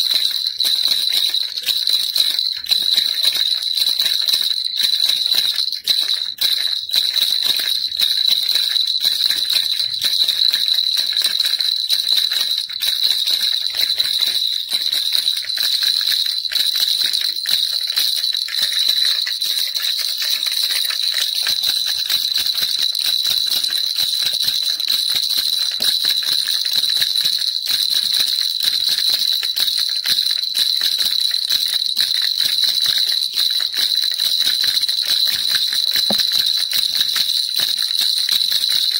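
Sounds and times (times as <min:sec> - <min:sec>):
baby rattle jingling: 0:00.0 - 0:38.9.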